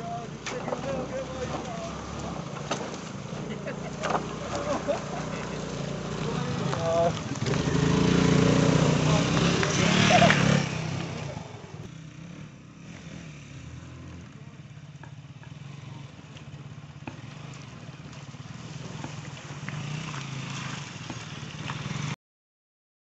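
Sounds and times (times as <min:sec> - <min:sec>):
motorcycle engine at low revs: 0:00.0 - 0:22.2.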